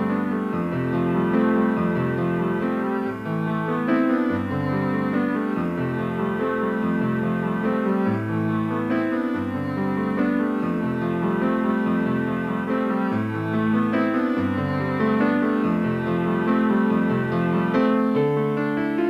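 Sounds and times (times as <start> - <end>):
keyboard chords: 0.0 - 19.0.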